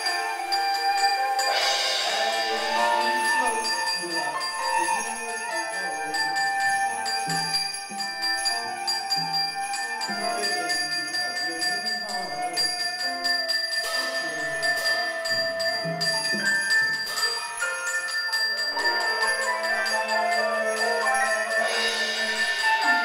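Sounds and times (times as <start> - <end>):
drums: 0.0 - 10.9, 12.7 - 23.0
bells and cymbals ringing: 0.0 - 23.0
flute: 0.0 - 23.0
piano: 0.0 - 23.0.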